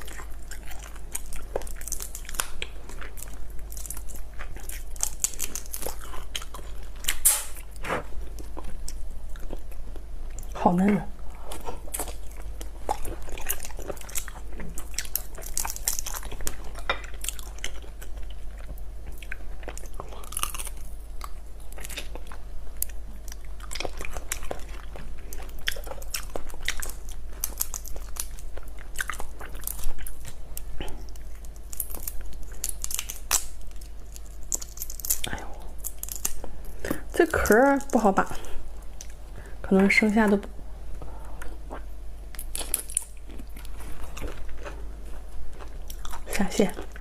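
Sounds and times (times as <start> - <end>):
chewing crunchy shrimp: 0.0 - 10.6, 11.2 - 39.4, 41.0 - 47.0.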